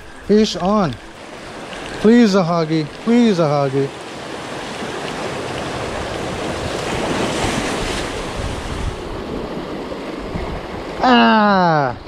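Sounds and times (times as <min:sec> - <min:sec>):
wind buffeting microphone: 0:00.0 - 0:11.0
surf breaking on rocks: 0:00.0 - 0:11.1.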